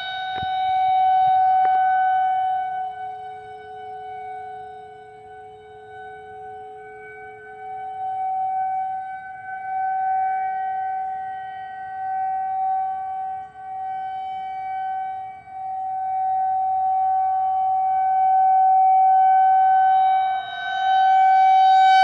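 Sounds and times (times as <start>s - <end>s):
fainter lower siren tone: 0.0s - 22.0s
warning siren steady tone: 0.0s - 22.0s.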